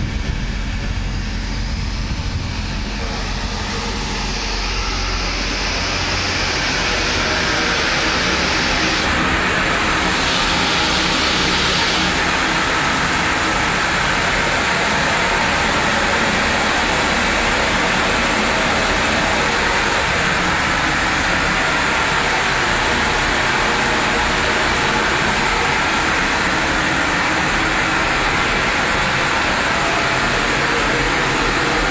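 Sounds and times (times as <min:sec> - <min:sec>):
loud machinery noise: 0:00.0 - 0:31.9.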